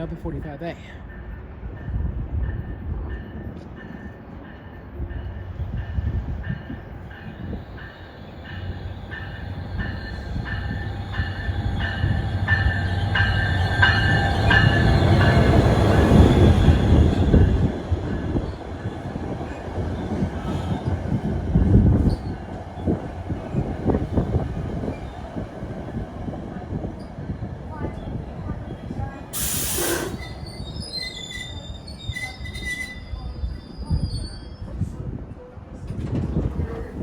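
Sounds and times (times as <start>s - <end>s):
train passing rumble: 0.0s - 37.0s.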